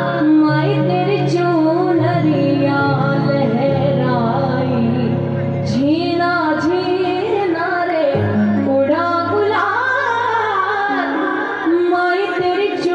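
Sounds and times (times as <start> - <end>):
woman singing: 0.0 - 12.9.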